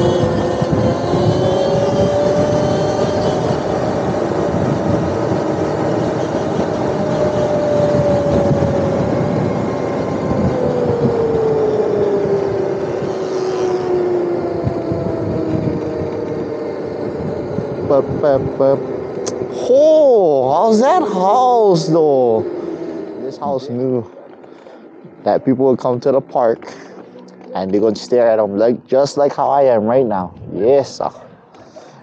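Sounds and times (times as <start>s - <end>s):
electric motor whining: 0.0s - 29.8s
wind noise on microphone: 0.0s - 32.0s.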